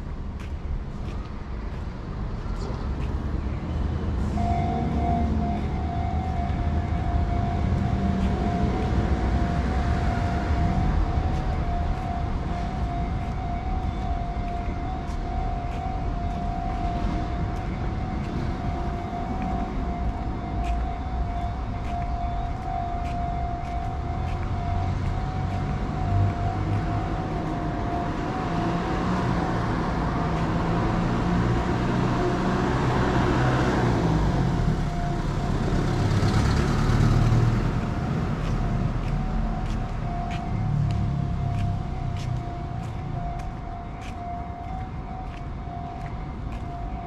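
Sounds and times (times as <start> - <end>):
low rumble of passing traffic: 0.0 - 47.0
level-crossing warning bell ringing: 4.2 - 47.0.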